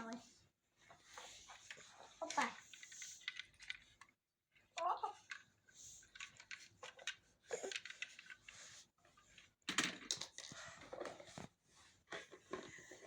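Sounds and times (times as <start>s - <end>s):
plastic toys clicking and knocking: 1.0s - 13.0s.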